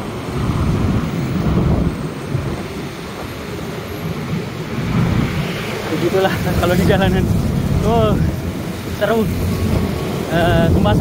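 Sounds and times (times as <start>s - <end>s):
cars and motorbikes in traffic: 0.0s - 11.0s
wind rumbling on microphone: 0.0s - 11.0s.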